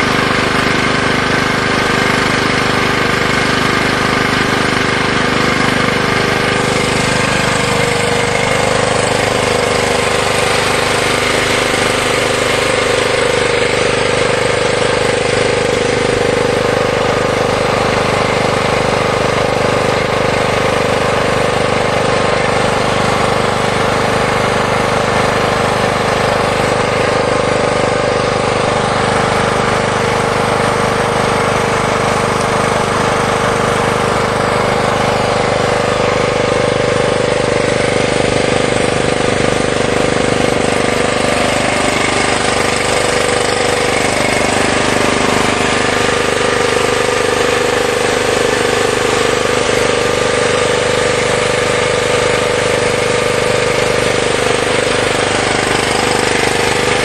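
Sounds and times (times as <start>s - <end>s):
generator engine running: 0.0s - 57.0s.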